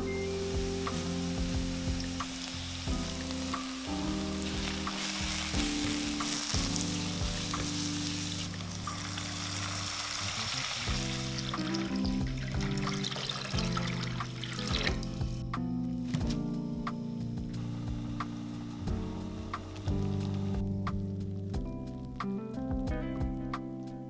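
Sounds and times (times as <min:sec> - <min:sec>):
food sizzling in a pan: 0:00.0 - 0:15.4, 0:16.0 - 0:20.6
background music of sustained chords: 0:00.0 - 0:22.6.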